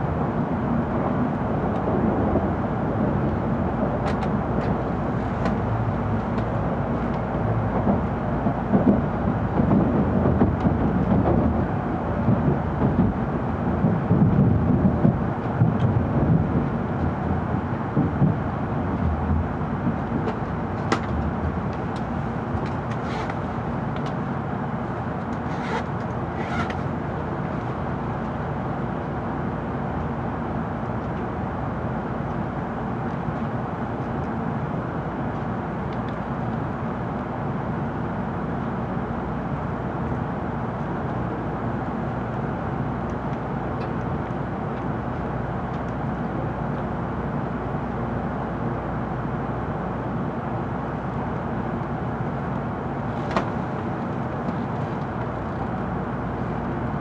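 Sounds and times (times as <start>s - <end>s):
train cabin rumble and hiss: 0.0s - 57.0s.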